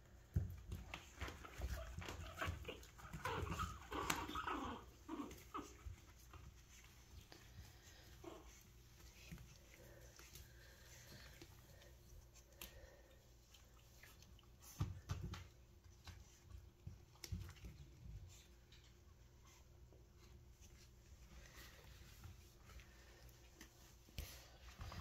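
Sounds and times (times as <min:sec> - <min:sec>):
faint rustles and clicks: 0:00.0 - 0:25.0.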